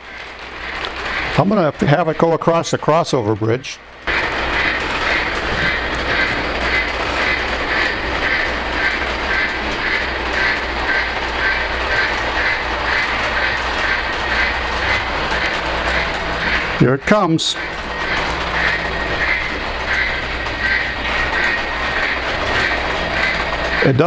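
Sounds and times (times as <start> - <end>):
model train running on track: 0.0 - 24.0
steam locomotive chuffing effect: 0.0 - 24.0.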